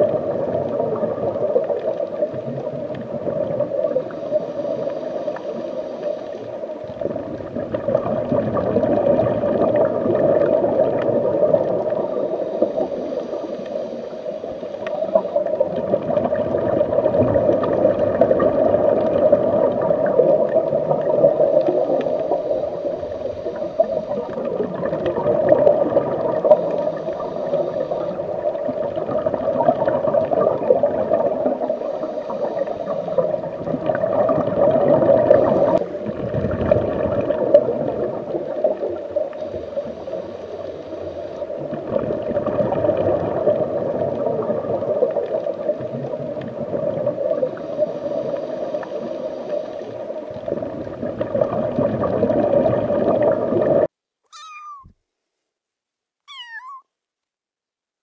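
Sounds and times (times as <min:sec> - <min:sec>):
underwater gurgling and bubbling: 0:00.0 - 0:53.9.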